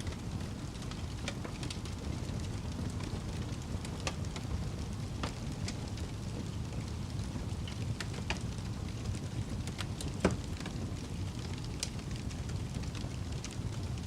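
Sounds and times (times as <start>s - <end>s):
fire crackling and popping: 0.0s - 14.0s
low rumble of fire: 0.0s - 14.0s.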